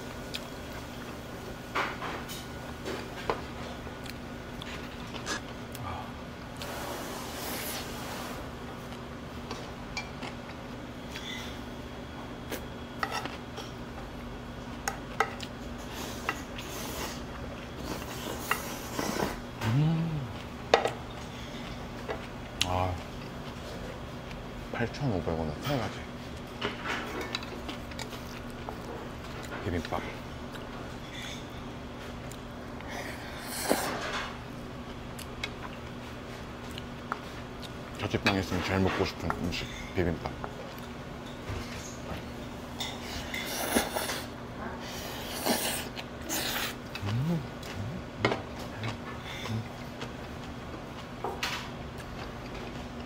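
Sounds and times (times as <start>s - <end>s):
low room hum: 0.0s - 53.0s.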